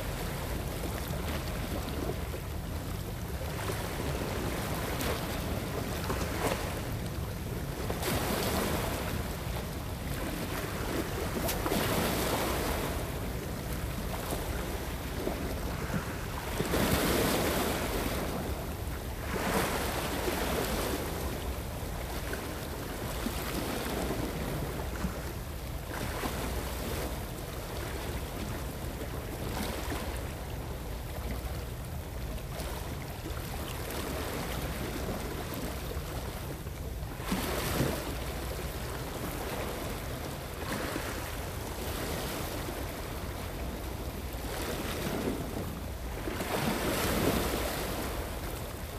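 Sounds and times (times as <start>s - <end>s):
wind rumble on microphone: 0.0s - 48.9s.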